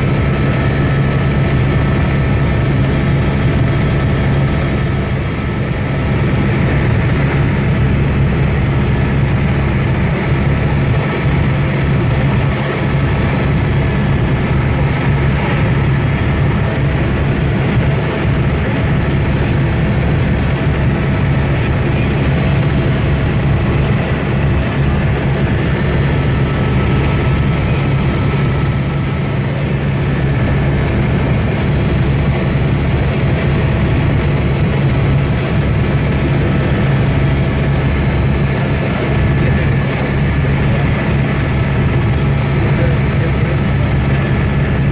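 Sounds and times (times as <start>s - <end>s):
helicopter drone: 0.0s - 44.9s.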